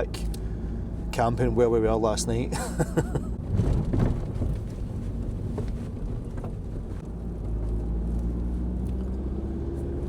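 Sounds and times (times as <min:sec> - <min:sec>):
road and wind noise: 0:00.0 - 0:10.0
van engine hum: 0:00.0 - 0:10.0.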